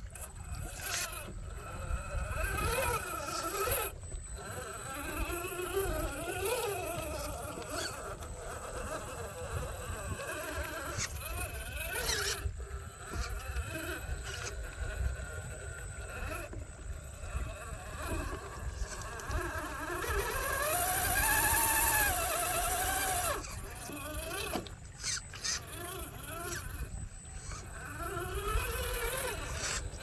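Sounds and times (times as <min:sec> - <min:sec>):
rc car motor whining: 0:00.0 - 0:30.0.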